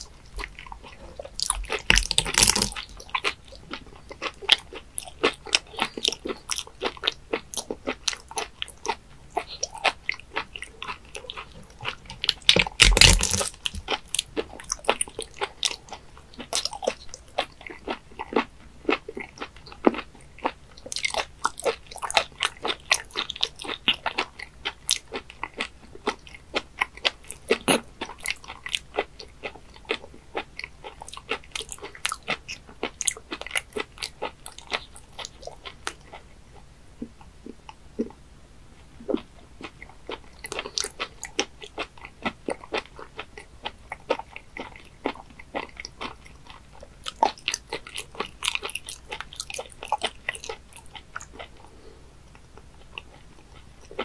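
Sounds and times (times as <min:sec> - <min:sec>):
chewing with mouth clicks: 0:00.0 - 0:38.2, 0:38.9 - 0:54.0.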